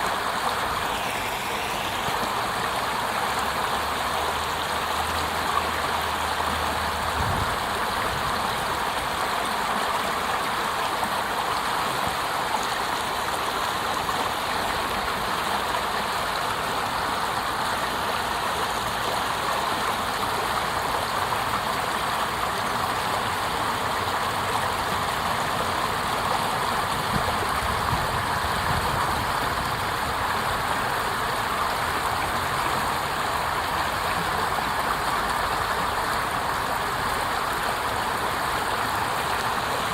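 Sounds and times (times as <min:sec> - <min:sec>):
water cascading over fall: 0:00.0 - 0:39.9.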